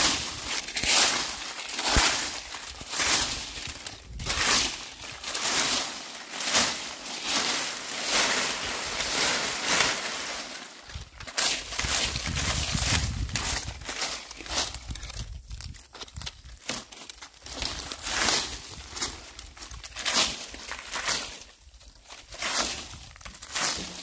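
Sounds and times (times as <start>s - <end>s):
broom sweeping dry leaves: 0.0s - 24.0s.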